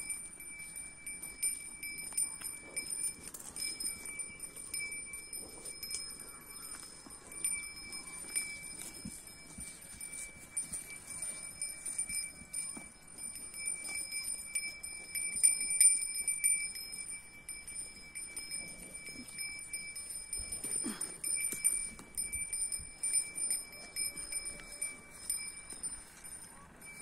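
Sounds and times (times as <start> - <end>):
small metal bell jingling: 0.0 - 27.0.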